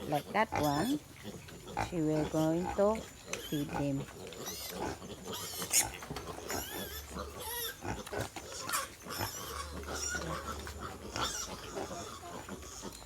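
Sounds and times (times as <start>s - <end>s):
piglets squealing: 0.0s - 13.0s.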